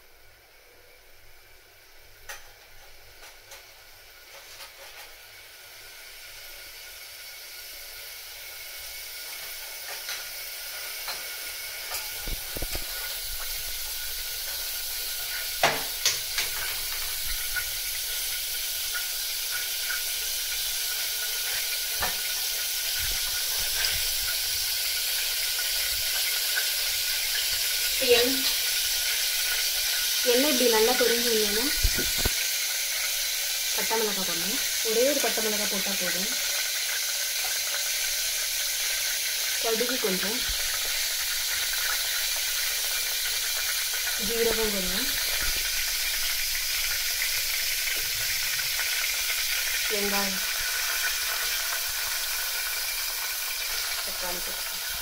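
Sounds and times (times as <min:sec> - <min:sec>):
oil hissing in pot: 0:00.0 - 0:55.0
pot of liquid boiling: 0:00.0 - 0:55.0
oil popping and crackling: 0:06.3 - 0:55.0.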